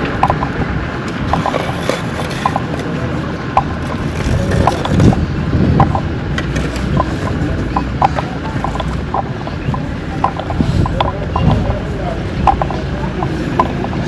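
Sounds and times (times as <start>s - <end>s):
low engine rumble: 0.0s - 14.0s
steady construction din: 0.0s - 14.0s.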